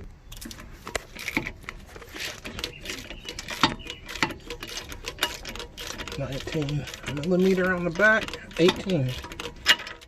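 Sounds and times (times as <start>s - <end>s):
metallic clicks and clanks of tools: 0.3s - 10.0s.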